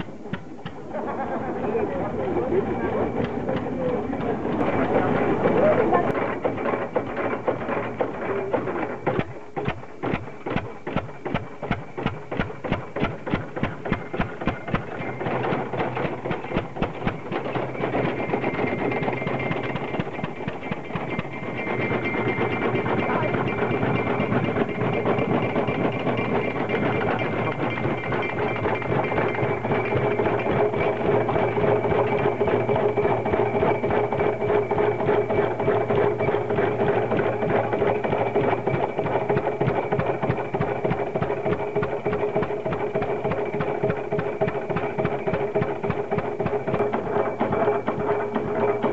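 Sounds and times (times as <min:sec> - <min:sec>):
stationary engines running: 0:00.0 - 0:48.9.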